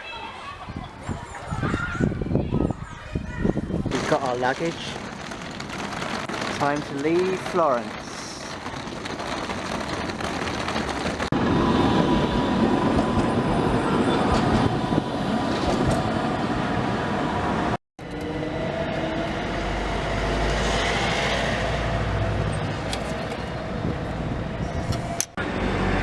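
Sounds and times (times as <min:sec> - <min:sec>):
passenger train running: 0:03.9 - 0:26.0.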